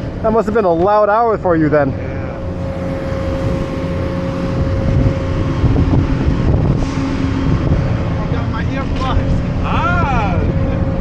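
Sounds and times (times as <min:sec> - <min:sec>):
engine running: 0:00.0 - 0:11.0
wind buffeting microphone: 0:01.4 - 0:11.0.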